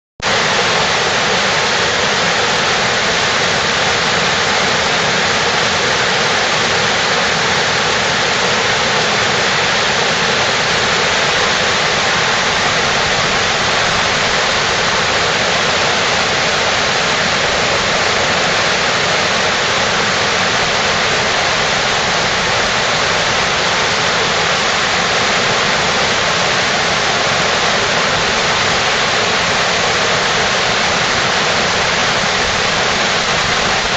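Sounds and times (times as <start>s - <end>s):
waterfall pouring over rocks: 0.2s - 33.9s.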